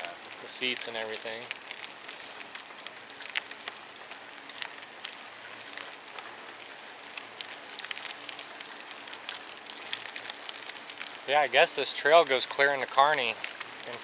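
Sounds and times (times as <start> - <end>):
bicycle tyres rolling on trail: 0.0 - 14.0
small clicks and crackles: 0.0 - 14.0.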